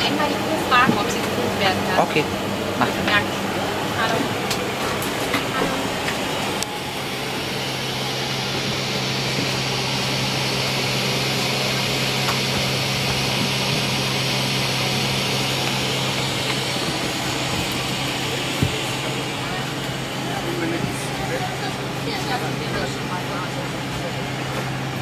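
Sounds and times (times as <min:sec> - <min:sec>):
constant low hum: 0:00.0 - 0:25.0.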